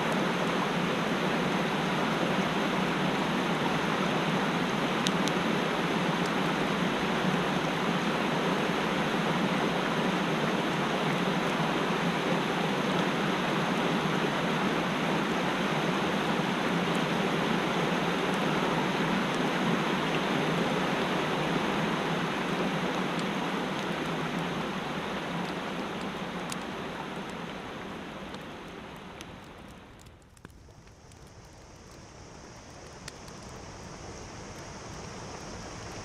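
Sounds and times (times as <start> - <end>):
stream rushing over rocks: 0.0 - 30.0.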